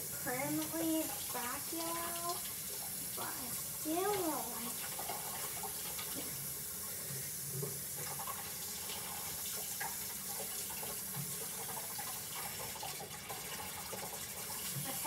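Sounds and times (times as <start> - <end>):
faucet running into sink: 0.0 - 15.0.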